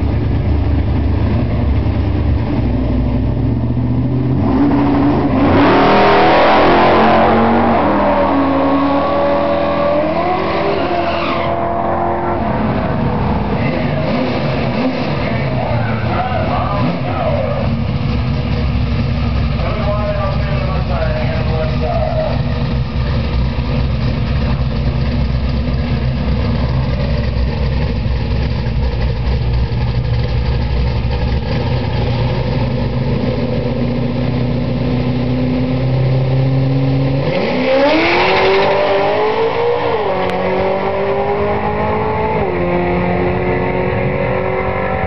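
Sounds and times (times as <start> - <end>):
drag car engine revving: 0.0 - 45.0.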